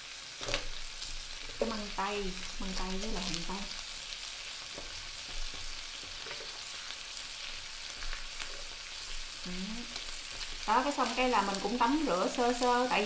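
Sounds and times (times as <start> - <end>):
food sizzling on a grill pan: 0.0 - 13.0.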